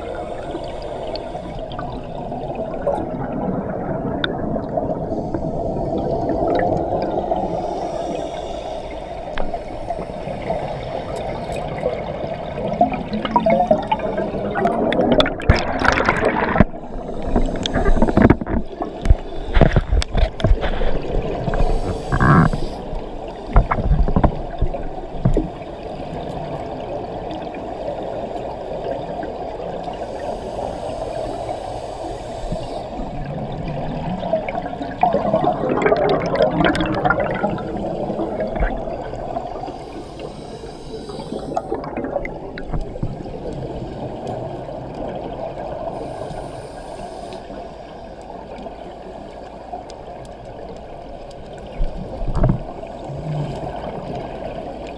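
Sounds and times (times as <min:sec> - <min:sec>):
underwater bubbles gurgling: 0:00.0 - 0:54.9.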